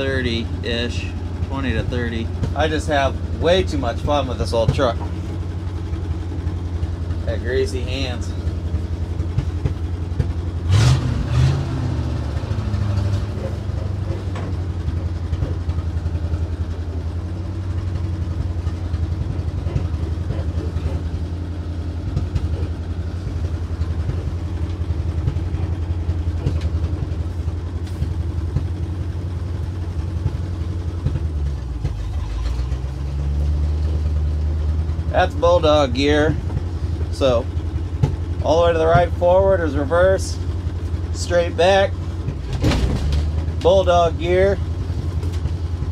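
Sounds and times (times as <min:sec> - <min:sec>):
truck engine idling: 0:00.0 - 0:45.9.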